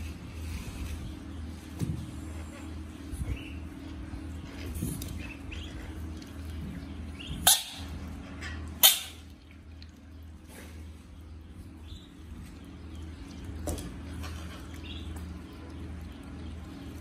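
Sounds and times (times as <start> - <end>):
steady low hum: 0.0 - 17.0
ducklings peeping: 0.4 - 17.0.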